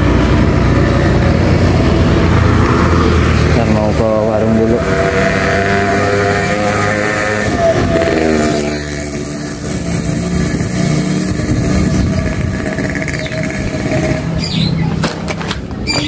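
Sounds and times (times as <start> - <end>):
motorcycle passing by: 0.0 - 15.0.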